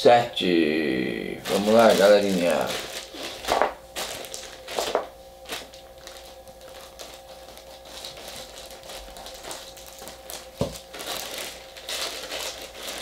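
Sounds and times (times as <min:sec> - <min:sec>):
plastic bag crinkling: 0:01.4 - 0:13.0.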